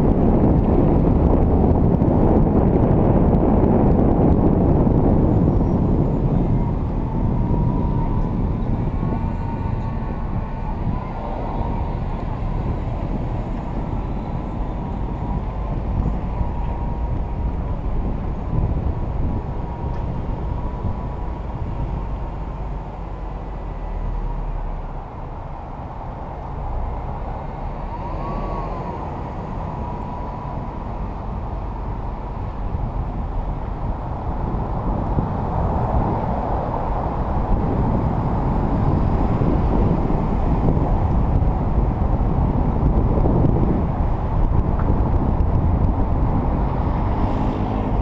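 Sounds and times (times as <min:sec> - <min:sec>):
vehicle rolling slowly: 0:00.0 - 0:48.0.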